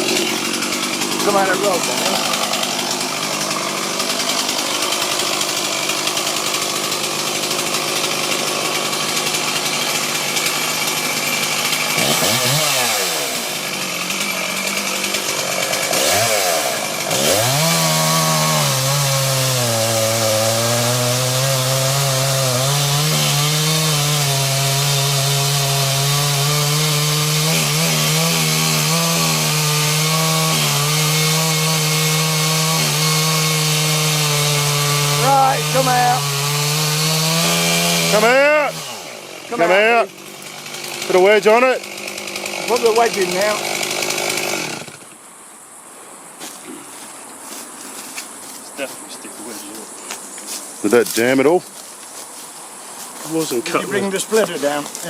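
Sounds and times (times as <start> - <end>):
chainsaw cutting tree trunk: 0.0 - 45.2, 53.3 - 55.0.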